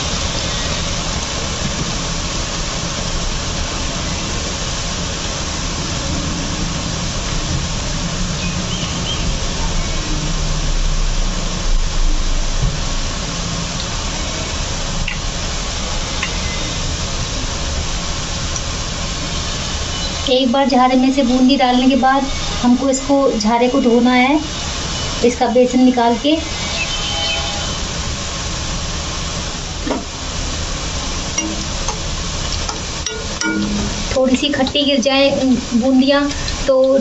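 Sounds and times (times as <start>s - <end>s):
batter sizzling in hot oil: 0.0s - 37.0s.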